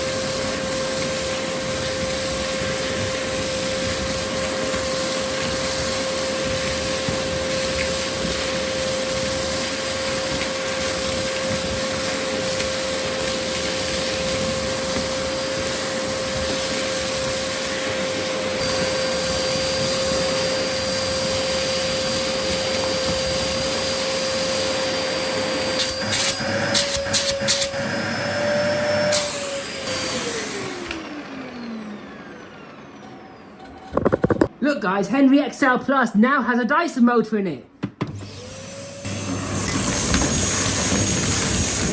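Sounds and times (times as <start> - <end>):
vacuum cleaner motor whining: 0.0 - 34.6, 38.0 - 41.9.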